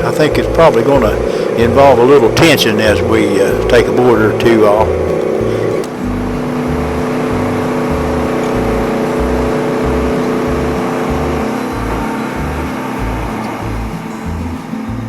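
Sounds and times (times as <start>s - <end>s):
band sawmill cutting log: 0.0s - 14.7s.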